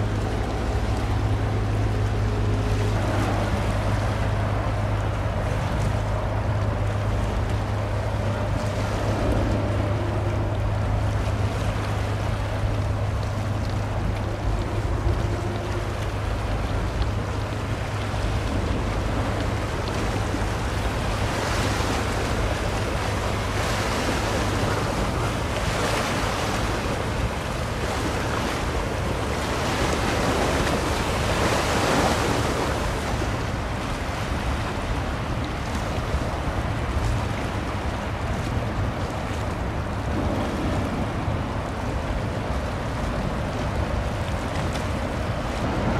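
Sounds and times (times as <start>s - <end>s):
steady low rumble: 0.0s - 45.9s
water washing and lapping: 0.0s - 45.9s
wind buffeting the microphone: 0.0s - 45.9s.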